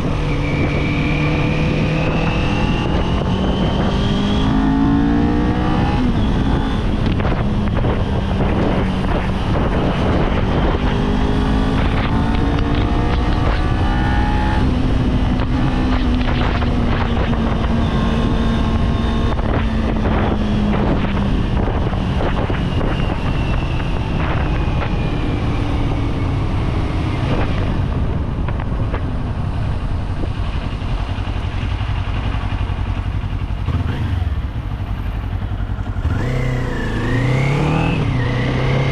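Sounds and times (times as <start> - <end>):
motorcycle engine: 0.0 - 38.9
road and wind noise: 0.0 - 38.9.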